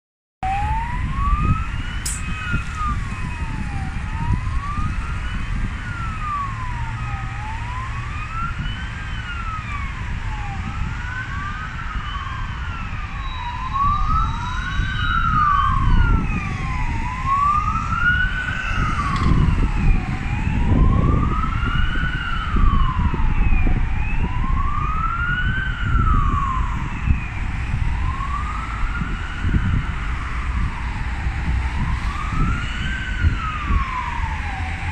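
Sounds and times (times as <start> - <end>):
ambulance sirens wailing: 0.4 - 34.9.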